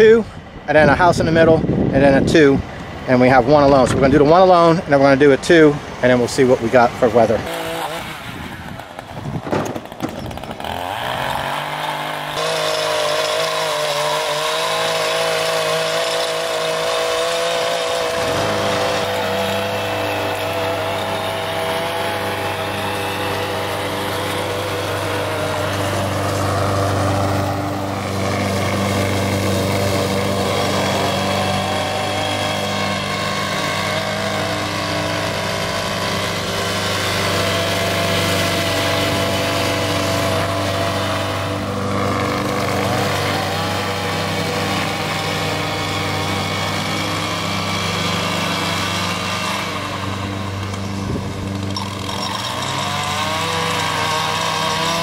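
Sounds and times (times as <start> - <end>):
push mower engine running: 0.0 - 55.0
string trimmer engine: 0.8 - 55.0.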